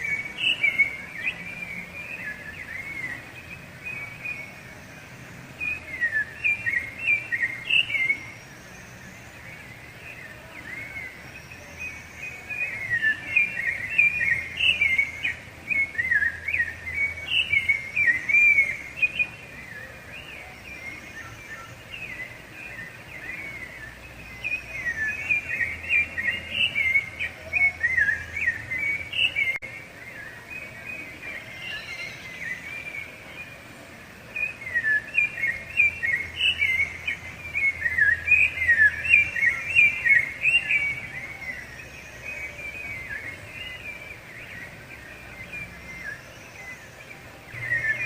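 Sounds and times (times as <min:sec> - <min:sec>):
thrush singing: 0:00.0 - 0:48.0.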